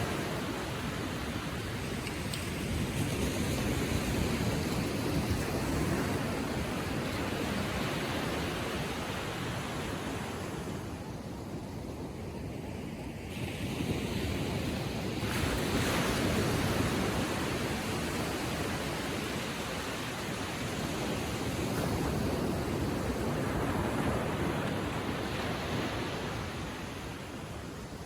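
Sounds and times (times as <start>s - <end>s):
small waves lapping on shore: 0.0s - 28.0s.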